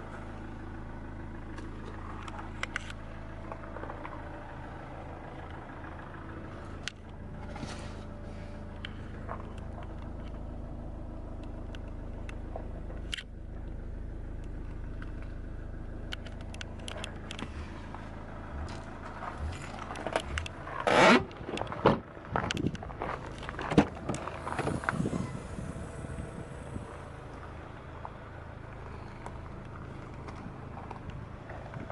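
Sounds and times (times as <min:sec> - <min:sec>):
car running hum: 0:00.0 - 0:31.9.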